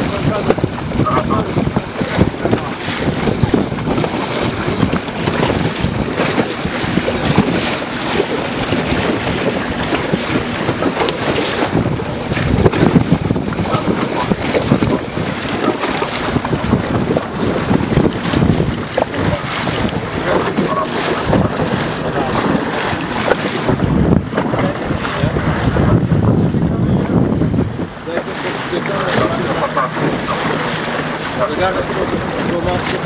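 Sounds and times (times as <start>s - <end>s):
water rushing along boat: 0.0s - 33.0s
wind buffeting microphone: 0.0s - 33.0s.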